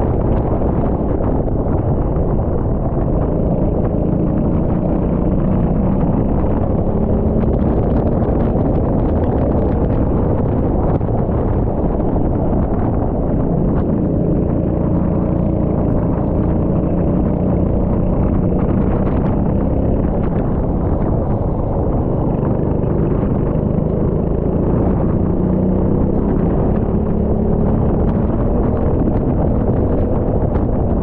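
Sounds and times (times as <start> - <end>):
go-kart engine running: 0.0 - 31.0
steady low rumble: 0.0 - 31.0.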